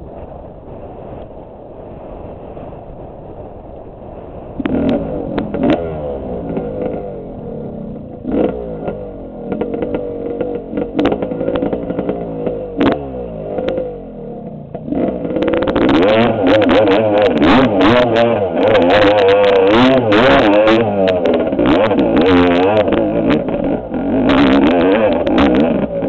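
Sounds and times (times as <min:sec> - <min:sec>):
dirt bike engine revving: 0:04.1 - 0:26.0.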